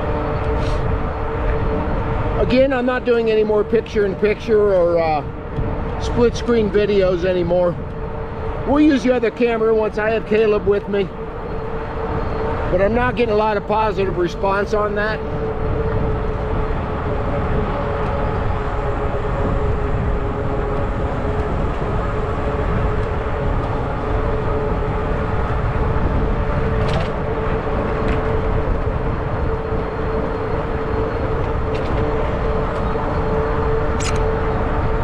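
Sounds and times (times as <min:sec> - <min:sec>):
even electric motor hum: 0:00.0 - 0:35.0
wind buffeting microphone: 0:00.0 - 0:35.0.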